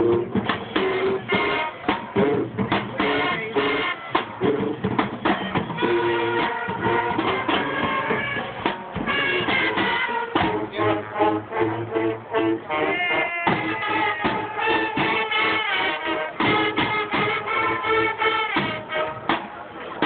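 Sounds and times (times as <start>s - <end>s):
drum kit steady beat: 0.0s - 20.0s.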